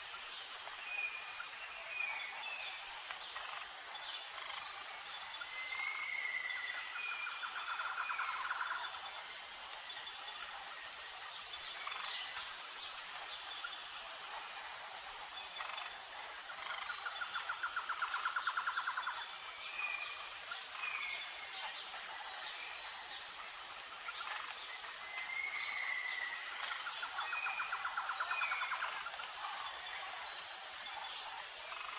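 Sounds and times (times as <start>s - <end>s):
high-pitched insect chorus: 0.0s - 31.9s.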